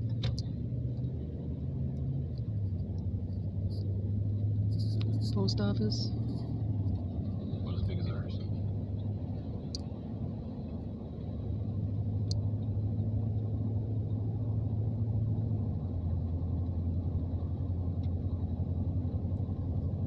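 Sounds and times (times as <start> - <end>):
car driving rumble from inside: 0.0 - 20.0.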